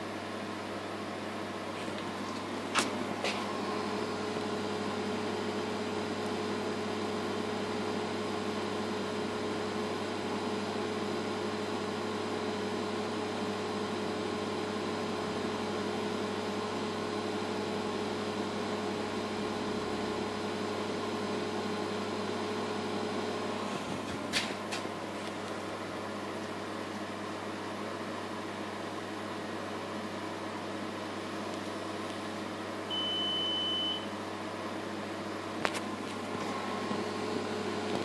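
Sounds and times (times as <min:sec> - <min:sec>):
machine hum with whine: 0:00.0 - 0:38.0.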